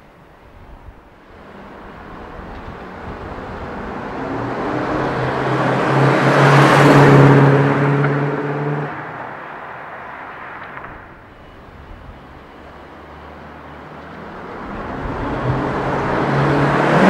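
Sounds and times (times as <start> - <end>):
car driving past with loud exhaust: 1.2 - 17.0.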